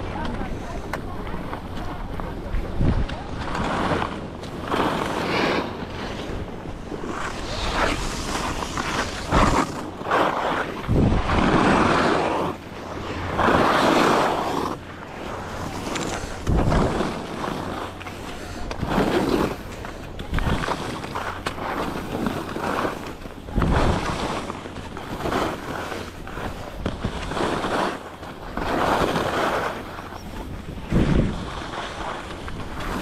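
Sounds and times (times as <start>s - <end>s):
skis scraping over snow: 0.0s - 33.0s
wind on microphone: 0.0s - 33.0s.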